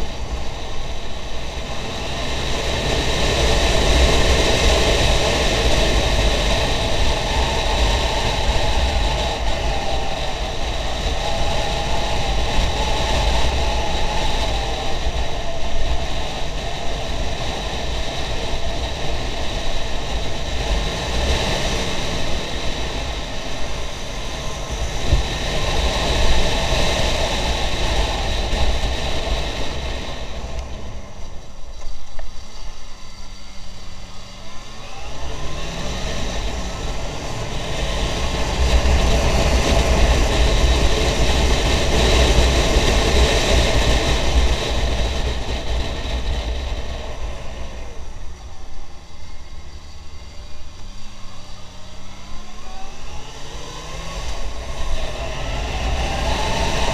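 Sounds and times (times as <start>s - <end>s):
motorcycle engine running: 0.0s - 56.9s
wind rush on microphone: 0.0s - 56.9s.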